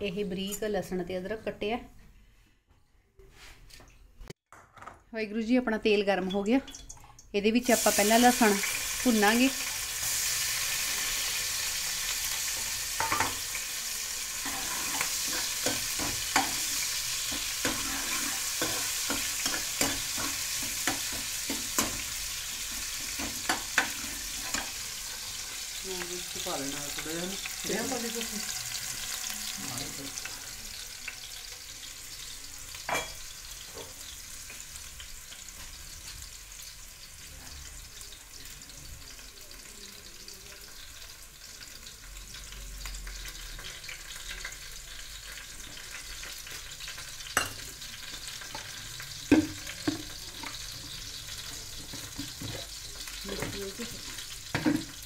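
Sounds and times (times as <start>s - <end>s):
garlic sizzling in hot oil: 7.5s - 55.0s.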